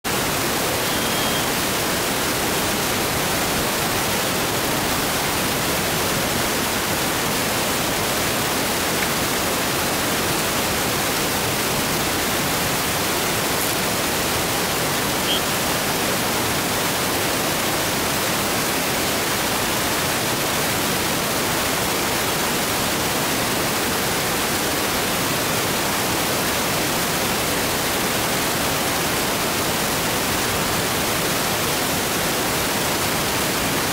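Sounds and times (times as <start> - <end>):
steady static hiss: 0.1 - 33.9.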